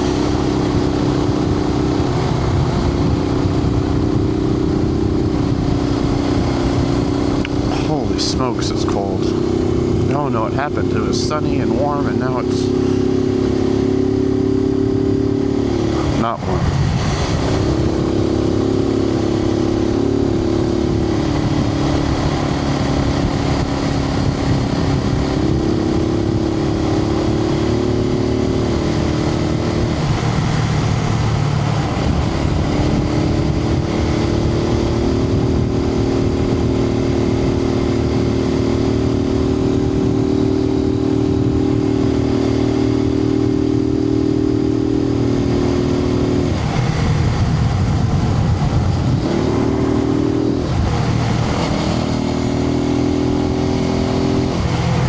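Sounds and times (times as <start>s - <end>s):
motorcycle engine cruising: 0.0s - 55.0s
wind noise: 0.0s - 55.0s.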